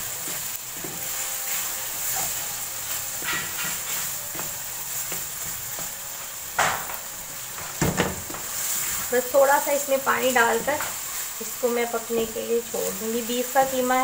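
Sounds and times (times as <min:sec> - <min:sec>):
meat and tomatoes sizzling: 0:00.0 - 0:14.0
wooden spatula scraping wok: 0:00.0 - 0:14.0.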